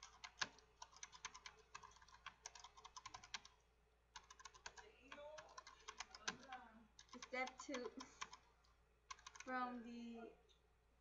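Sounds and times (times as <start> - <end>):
faint keyboard typing: 0.0 - 9.7.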